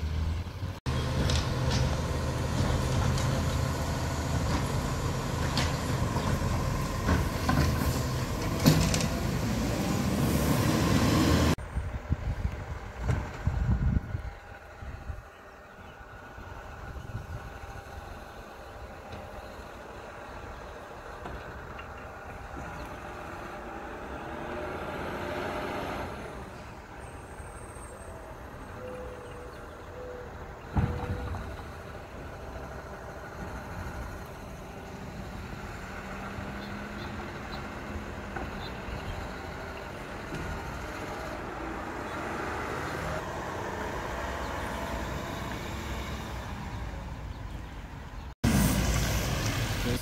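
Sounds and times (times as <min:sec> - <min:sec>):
truck engine drone: 0:00.0 - 0:50.0.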